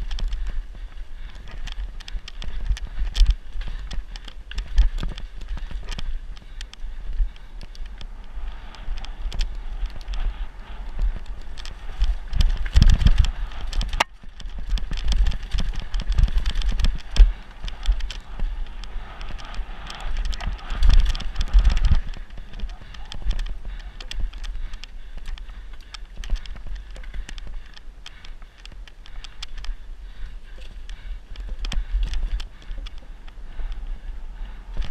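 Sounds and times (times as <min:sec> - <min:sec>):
bike clicks and rattles: 0:00.0 - 0:34.9
bike tyres on dirt: 0:00.0 - 0:34.9
wind rumble on microphone: 0:00.0 - 0:34.9.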